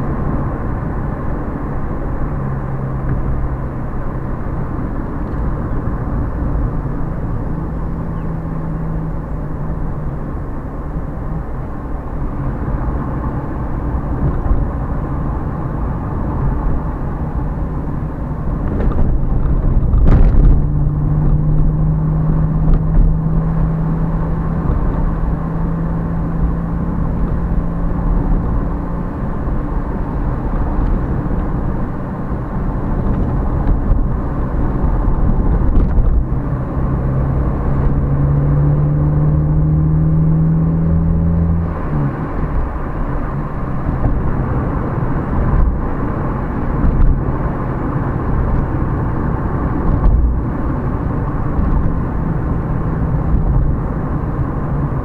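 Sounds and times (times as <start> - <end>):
car engine hum: 0.0 - 55.0.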